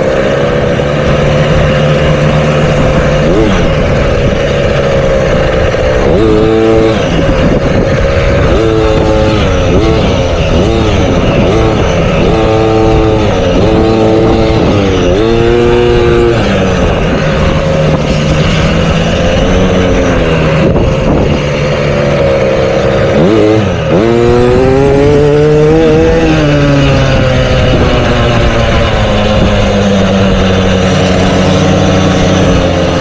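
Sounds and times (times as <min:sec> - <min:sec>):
dirt bike engines revving: 0:00.0 - 0:33.0
low engine drone: 0:00.0 - 0:33.0.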